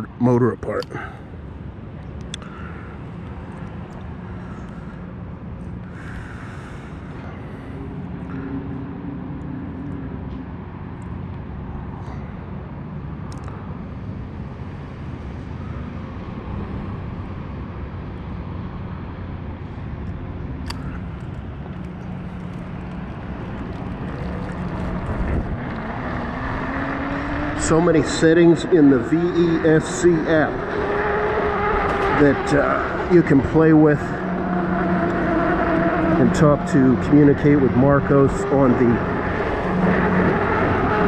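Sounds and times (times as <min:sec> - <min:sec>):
city traffic noise: 0:00.0 - 0:41.0
low hum: 0:00.8 - 0:41.0.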